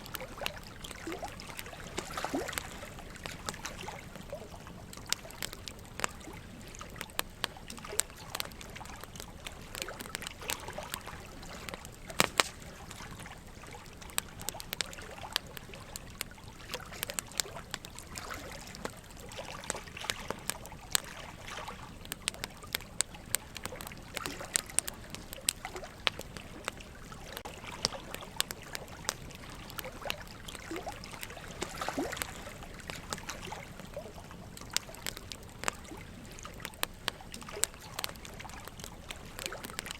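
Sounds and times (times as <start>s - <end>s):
burning logs crackling: 0.0s - 39.9s
running water trickling: 0.0s - 39.9s.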